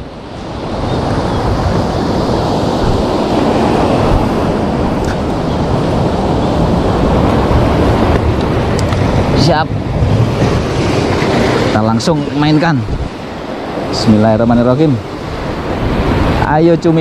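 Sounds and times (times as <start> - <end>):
heavy surf breaking on rocks: 0.0 - 17.0.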